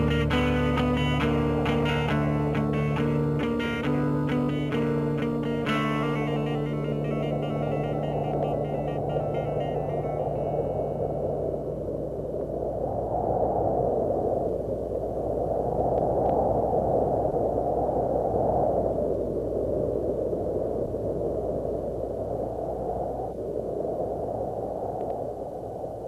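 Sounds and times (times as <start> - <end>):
wind rushing in gusts: 0.0 - 26.0.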